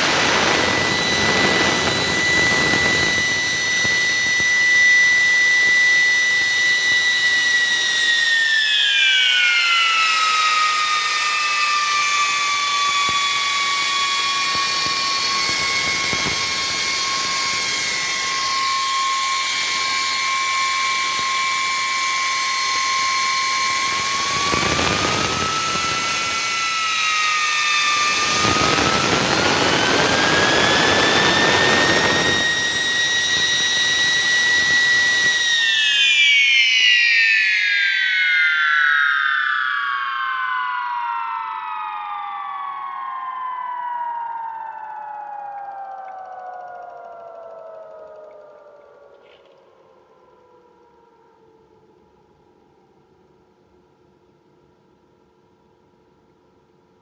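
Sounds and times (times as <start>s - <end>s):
high rotor whine: 0.0s - 54.8s.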